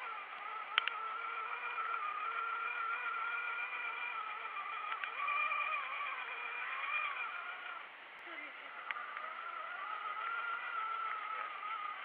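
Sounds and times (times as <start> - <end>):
vehicle motor whining: 0.0 - 12.0.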